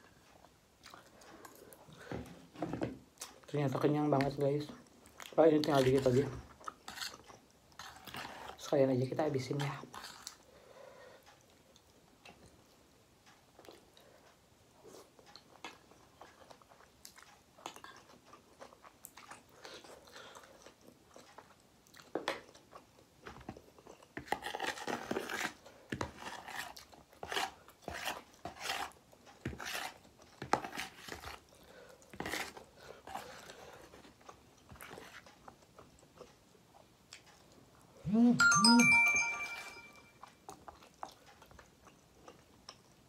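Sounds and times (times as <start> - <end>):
chewing noodles: 0.2 - 2.0, 5.0 - 8.7, 9.5 - 10.5, 11.2 - 37.8, 40.2 - 43.0.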